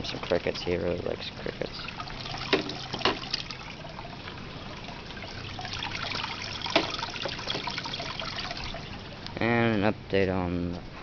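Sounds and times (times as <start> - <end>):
water trickling: 0.0 - 10.2.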